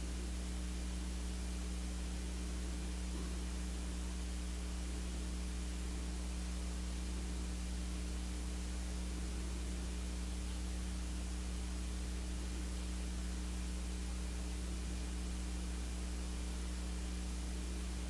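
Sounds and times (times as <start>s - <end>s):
constant hiss: 0.0s - 18.0s
electrical hum with buzz: 0.0s - 18.0s.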